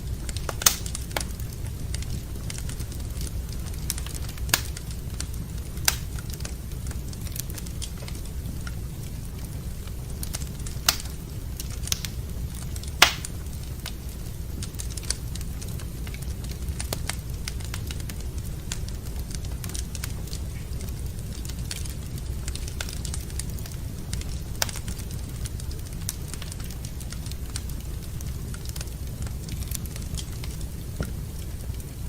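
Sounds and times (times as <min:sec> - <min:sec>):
wood fire crackling: 0:00.0 - 0:32.0
sharp pops of fire: 0:00.2 - 0:08.8, 0:09.7 - 0:27.8.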